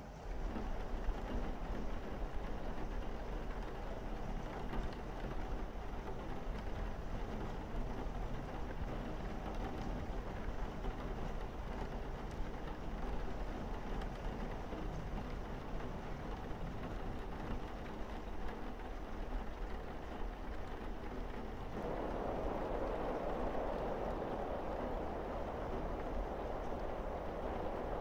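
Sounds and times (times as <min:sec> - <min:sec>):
rain on roof and windows: 0:00.0 - 0:28.0.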